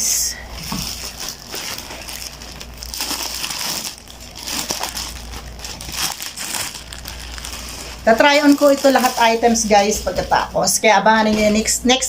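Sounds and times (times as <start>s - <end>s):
packaging crinkling: 0.5s - 10.6s.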